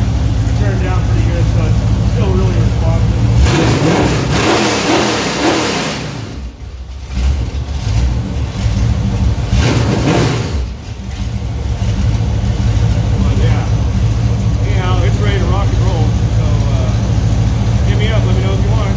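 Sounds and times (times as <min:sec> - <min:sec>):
engine revving and idling: 0:00.0 - 0:18.9.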